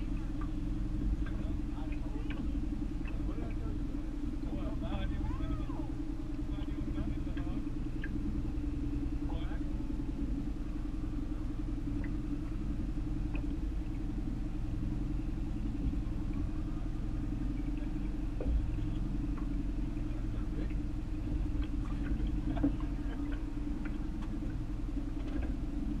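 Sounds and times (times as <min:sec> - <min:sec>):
faint voices: 0:00.0 - 0:11.2, 0:14.0 - 0:25.5
boat engine running low: 0:00.0 - 0:26.0.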